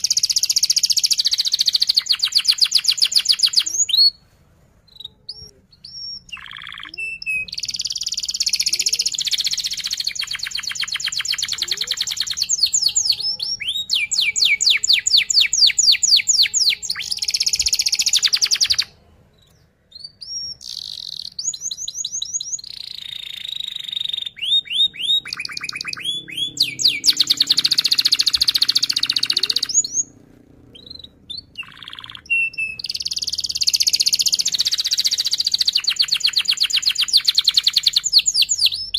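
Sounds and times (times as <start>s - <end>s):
canary singing trills: 0.0s - 4.2s, 4.8s - 38.9s.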